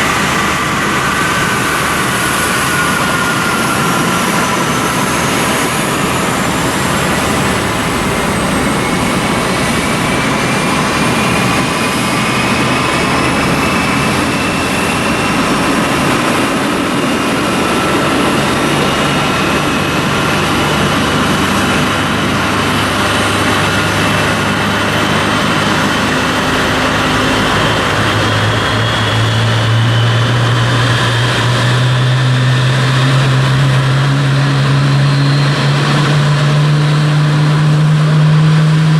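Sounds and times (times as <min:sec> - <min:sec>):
turbofan engine spooling up: 0:00.0 - 0:38.9.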